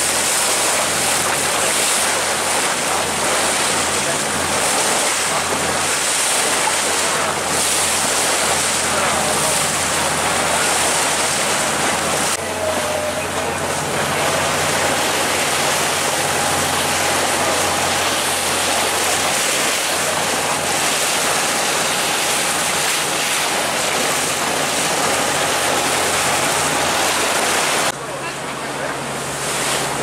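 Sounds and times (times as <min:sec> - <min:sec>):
boat engine hum: 0:00.0 - 0:30.0
water rushing along boat hull: 0:00.0 - 0:30.0.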